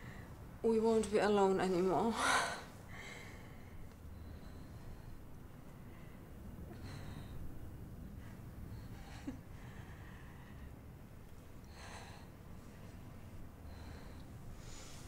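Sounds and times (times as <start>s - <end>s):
quiet breathing and sighs: 0.0s - 0.6s, 2.0s - 15.0s
low room hum: 0.0s - 15.0s.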